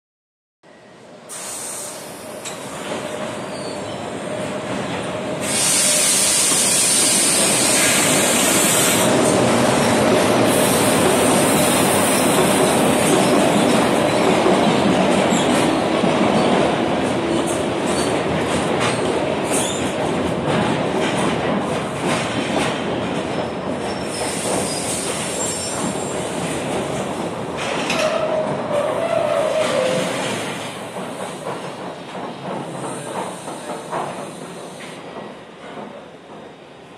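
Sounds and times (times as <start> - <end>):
train running through station: 0.6 - 36.9.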